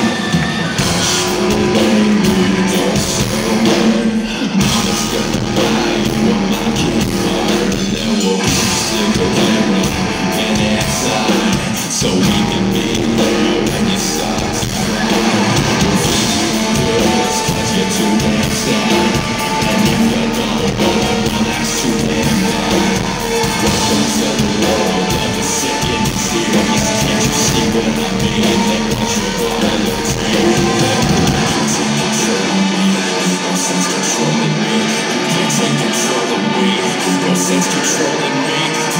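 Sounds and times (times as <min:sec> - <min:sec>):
drums: 0:00.0 - 0:38.9
electric guitars: 0:00.0 - 0:38.9
person singing: 0:00.0 - 0:38.9.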